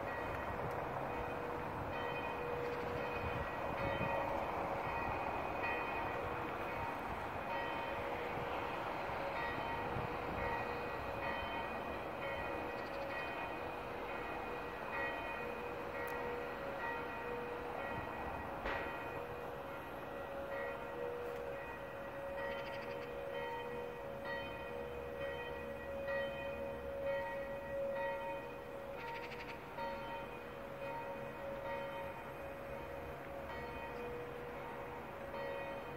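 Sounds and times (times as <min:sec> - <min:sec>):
church bells pealing: 0:00.0 - 0:35.9.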